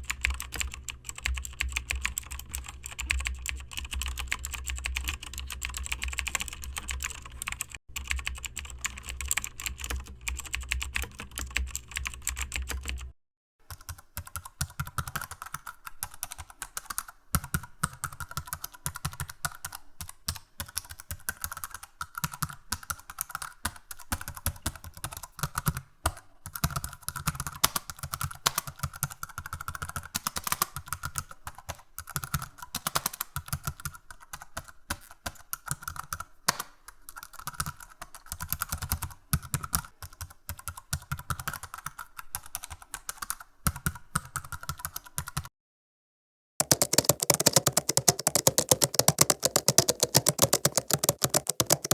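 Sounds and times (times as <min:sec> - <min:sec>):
fast typing on keyboard: 0:00.0 - 0:45.5, 0:46.6 - 0:51.9.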